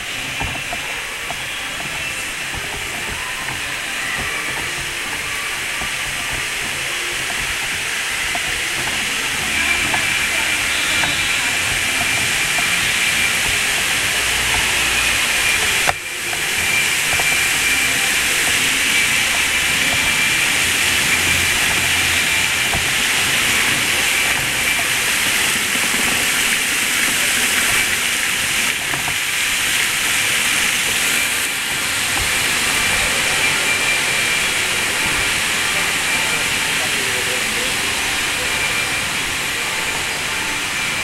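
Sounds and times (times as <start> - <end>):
fountain water splashing: 0.0 - 41.0.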